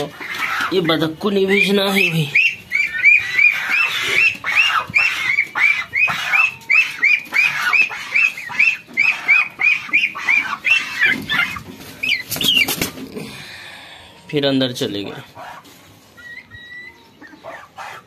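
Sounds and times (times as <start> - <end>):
bird peeping: 0.0 - 12.9, 15.4 - 18.0.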